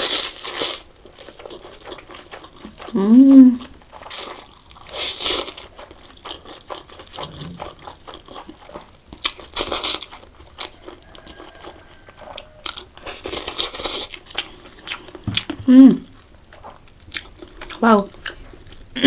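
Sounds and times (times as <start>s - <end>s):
person chewing and biting noodles: 0.0s - 19.0s.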